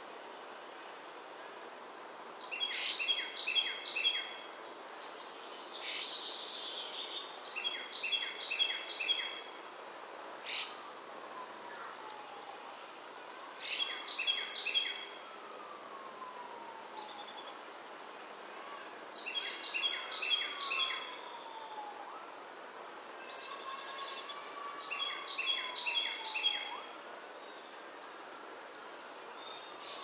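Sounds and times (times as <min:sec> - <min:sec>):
songbird singing: 0:00.0 - 0:09.6, 0:10.4 - 0:22.3, 0:23.2 - 0:30.0
outdoor hiss: 0:00.0 - 0:30.0.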